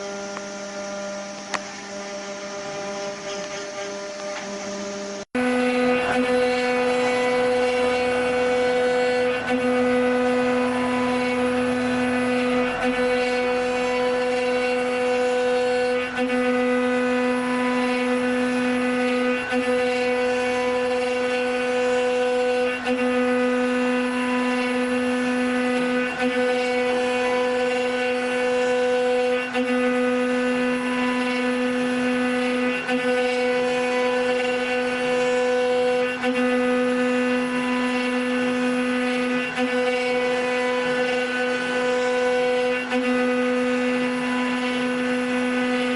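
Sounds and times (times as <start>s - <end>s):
wood router motor whining: 0.0s - 45.9s.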